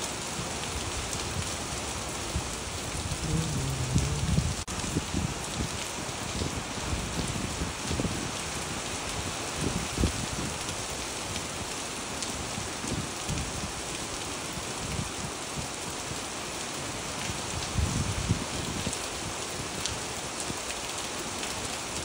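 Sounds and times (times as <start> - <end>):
rain splashing on wet pavement: 0.0 - 22.0.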